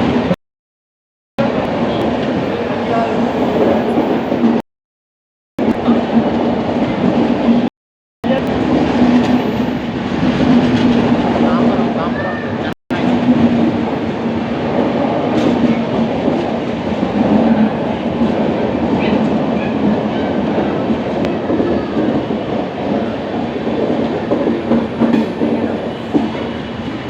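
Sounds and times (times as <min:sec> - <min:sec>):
train rumbling along rails: 0:00.0 - 0:00.4, 0:01.4 - 0:04.6, 0:05.6 - 0:27.0.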